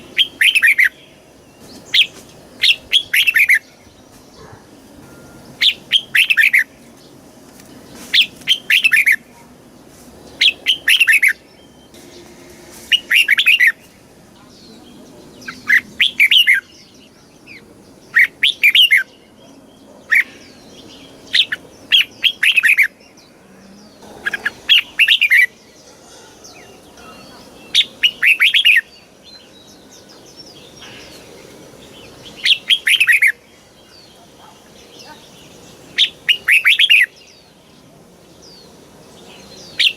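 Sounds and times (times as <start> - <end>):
bird singing warbling phrases: 0.0 - 4.9, 5.5 - 6.9, 8.1 - 9.5, 10.3 - 12.2, 12.9 - 39.9.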